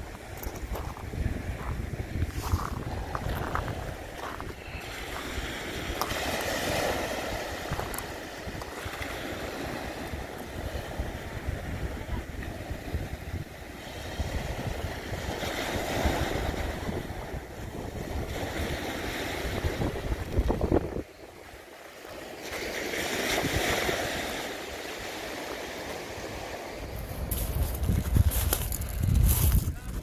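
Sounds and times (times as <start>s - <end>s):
small waves on shingle beach: 0.0s - 30.0s
wind rumbling on microphone: 0.0s - 30.0s.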